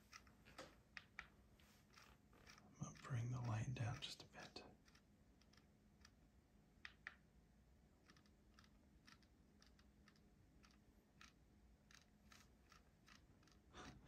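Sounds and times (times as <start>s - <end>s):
faint small clicks: 0.0s - 6.2s, 6.8s - 7.3s, 8.0s - 14.0s.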